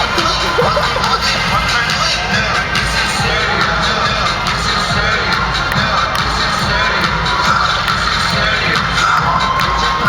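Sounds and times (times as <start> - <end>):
crowd shouting and cheering: 0.0 - 10.0
music playing: 0.0 - 10.0.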